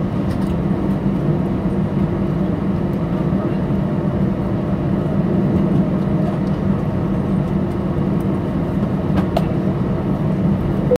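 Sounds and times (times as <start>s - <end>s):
aircraft cabin drone: 0.0s - 11.0s.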